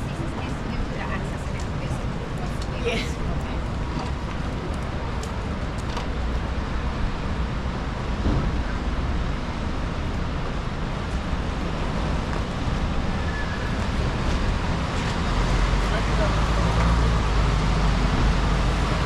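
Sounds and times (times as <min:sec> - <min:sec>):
traffic on wet roads: 0:00.0 - 0:19.0.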